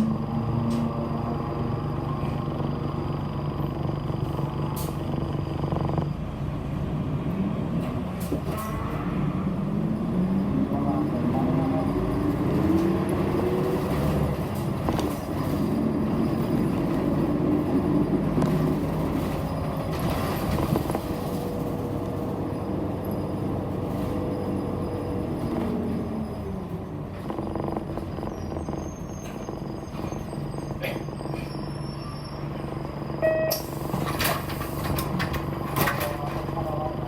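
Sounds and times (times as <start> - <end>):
bus engine whine: 0.0 - 37.0
road noise rumble: 0.0 - 37.0.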